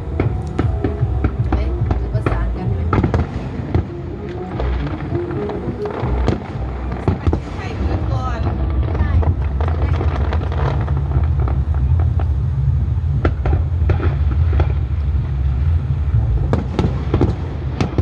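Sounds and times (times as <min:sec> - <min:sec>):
fireworks pops and crackles: 0:00.0 - 0:18.0
heavy low rumble: 0:00.0 - 0:18.0.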